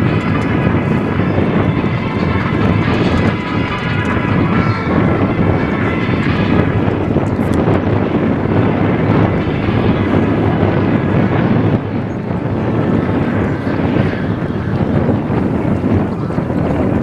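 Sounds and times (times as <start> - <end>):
motorcycles running: 0.0 - 17.0
wind buffeting microphone: 0.0 - 17.0.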